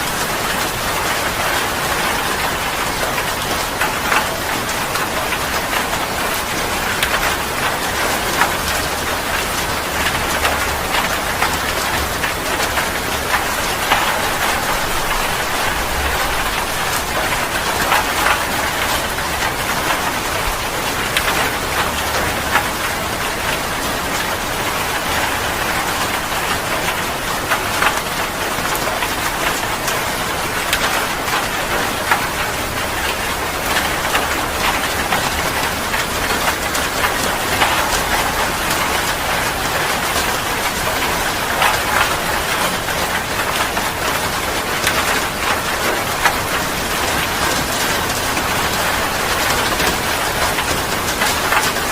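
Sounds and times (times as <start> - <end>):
heavy rain falling: 0.0 - 51.9
raindrops spattering on a surface: 0.0 - 51.9.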